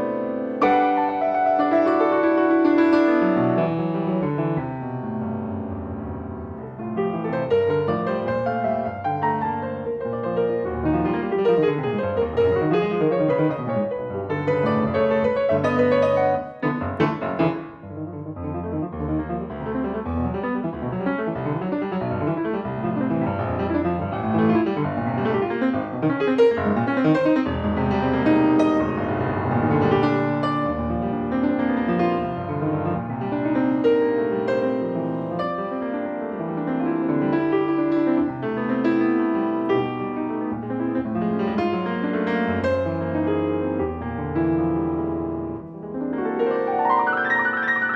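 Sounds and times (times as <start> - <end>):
fast solo piano: 0.0 - 47.9.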